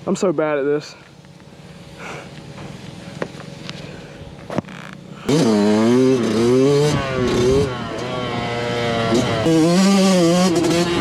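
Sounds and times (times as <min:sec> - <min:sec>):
dirt bike engine revving: 0:01.7 - 0:11.0.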